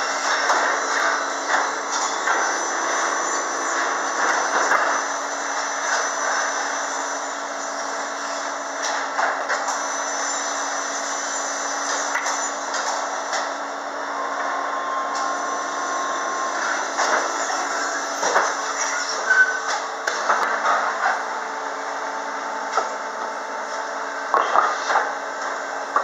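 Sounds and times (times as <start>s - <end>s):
high machine whine: 0.0s - 26.0s
machinery hum: 0.0s - 26.0s.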